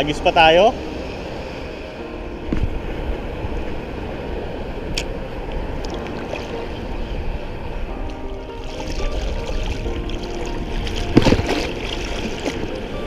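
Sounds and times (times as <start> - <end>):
sea surf: 0.0 - 13.0
wind rumbling on microphone: 0.0 - 13.0.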